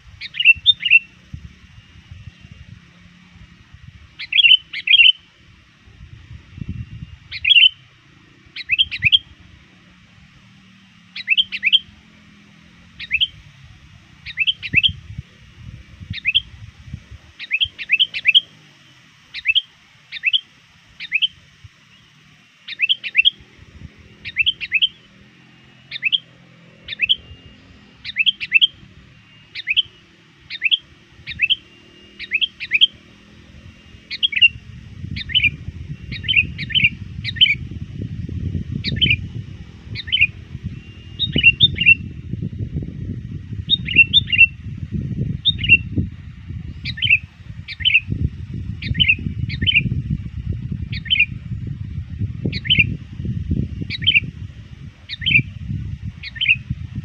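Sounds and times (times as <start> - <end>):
bird chirping: 0.0 - 2.7, 4.1 - 5.3, 6.6 - 42.9, 43.5 - 57.0.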